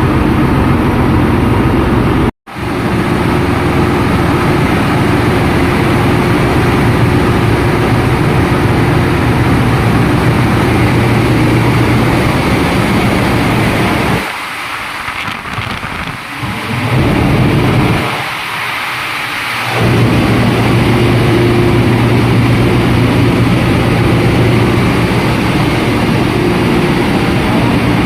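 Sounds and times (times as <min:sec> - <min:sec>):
engine-room machinery drone: 0:00.0 - 0:28.0.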